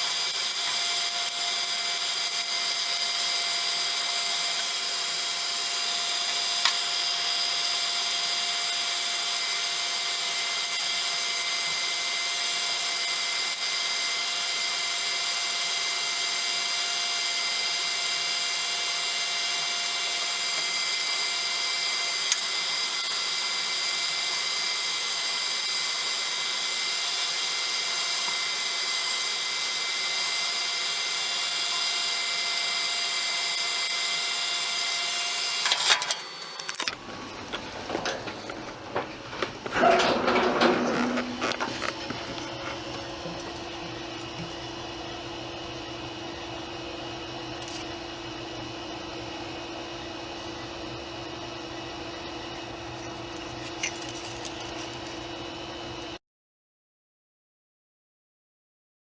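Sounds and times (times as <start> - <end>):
heat gun fan whining: 0.0 - 56.2.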